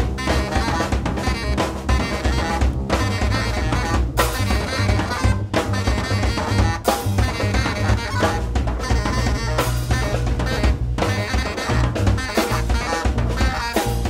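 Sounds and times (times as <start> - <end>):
bass: 0.0 - 14.0
drum kit: 0.0 - 14.0
saxophone: 0.0 - 14.0.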